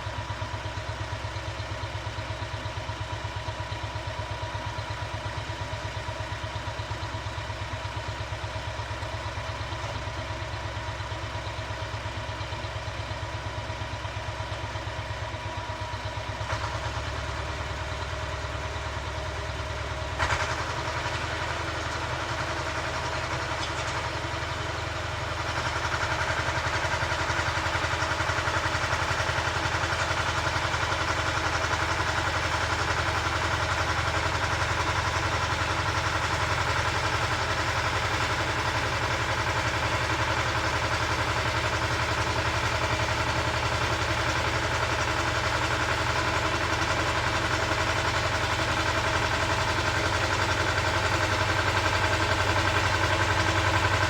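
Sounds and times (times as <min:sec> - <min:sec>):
tiller engine running: 0:00.0 - 0:54.0.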